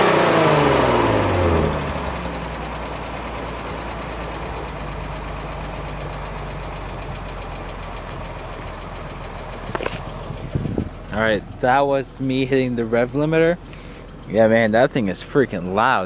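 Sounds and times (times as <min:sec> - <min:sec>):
car engine idling: 0:00.0 - 0:16.0
light even ticking: 0:00.7 - 0:16.0.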